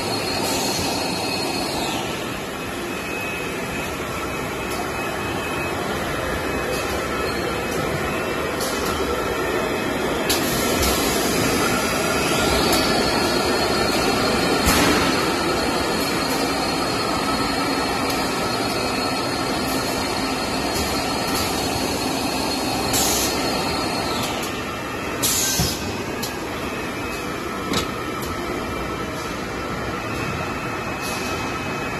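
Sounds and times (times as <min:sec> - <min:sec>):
factory machinery running: 0:00.0 - 0:31.9.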